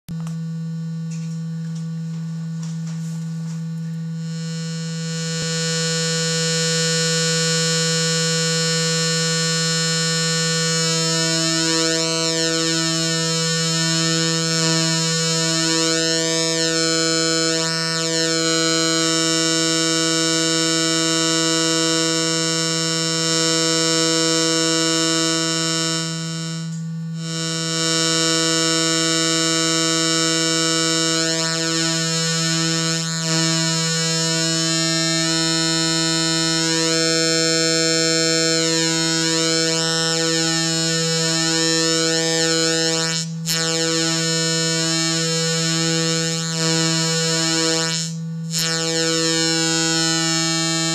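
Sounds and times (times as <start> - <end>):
synthesizer low tone: 0.1 - 50.9.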